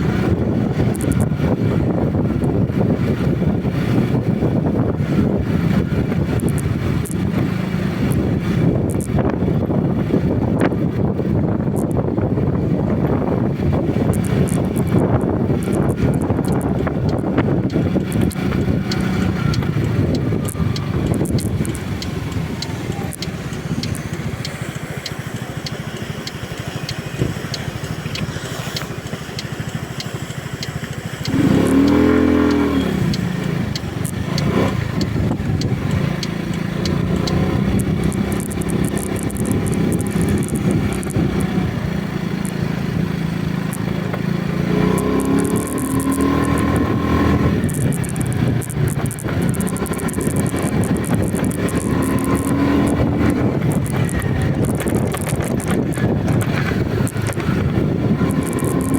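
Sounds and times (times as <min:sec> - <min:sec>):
road noise: 0:00.0 - 0:58.9
vehicle engine running: 0:00.0 - 0:58.9.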